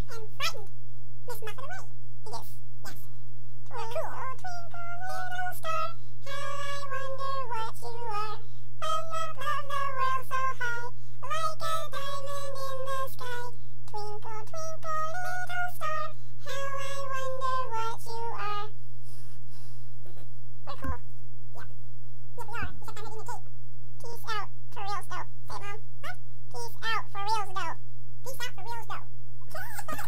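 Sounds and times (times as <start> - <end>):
sped-up high-pitched singing: 0.0 - 0.7, 1.3 - 3.1, 3.7 - 18.7, 20.6 - 21.7, 22.4 - 23.4, 24.0 - 29.7
steady low hum: 0.0 - 30.0.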